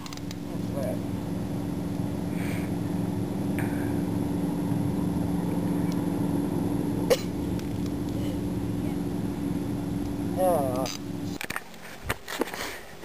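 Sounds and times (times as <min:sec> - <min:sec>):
low motor hum: 0:00.0 - 0:11.6.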